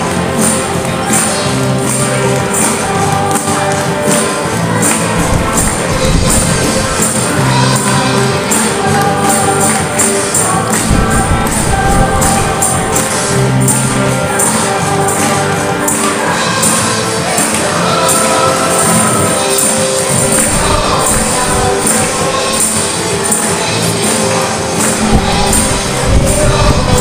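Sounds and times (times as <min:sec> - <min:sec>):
acoustic guitars: 0:00.0 - 0:27.0
bass guitar: 0:00.0 - 0:27.0
drums: 0:00.0 - 0:27.0
group singing into microphones: 0:00.0 - 0:27.0
tambourines jingling: 0:00.0 - 0:27.0.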